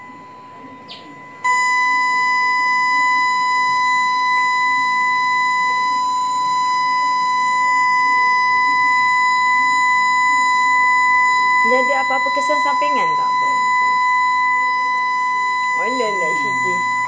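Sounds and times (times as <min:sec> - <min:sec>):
high electronic tone: 0:00.0 - 0:17.0.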